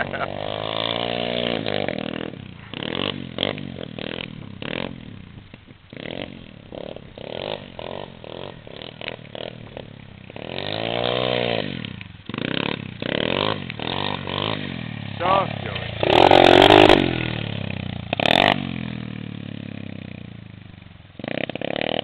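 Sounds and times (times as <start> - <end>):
motorbike engine revving: 0.0 - 22.0.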